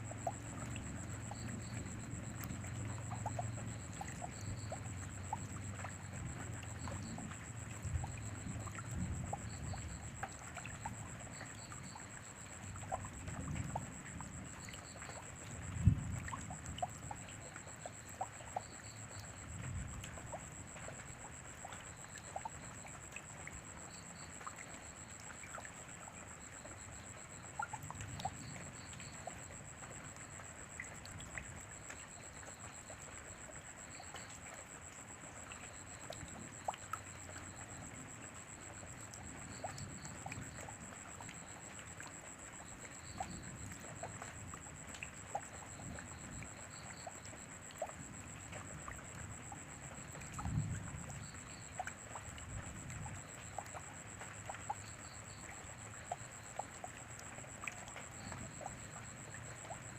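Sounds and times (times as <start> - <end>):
steady rainfall: 0.0 - 59.9
water drips: 0.0 - 59.9.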